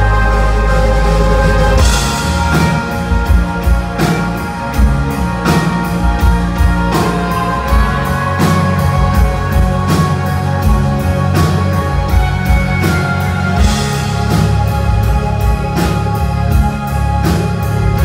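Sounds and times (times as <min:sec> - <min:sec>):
bass guitar: 0:00.0 - 0:18.0
drum kit beat: 0:00.0 - 0:18.0
electric guitars: 0:00.0 - 0:18.0.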